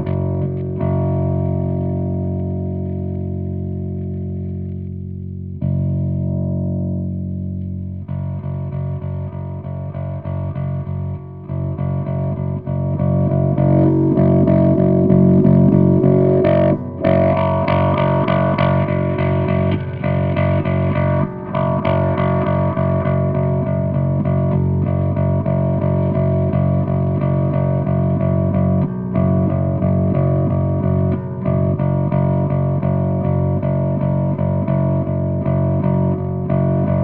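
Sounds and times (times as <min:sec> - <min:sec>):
heavily distorted electric bass: 0:00.0 - 0:37.0.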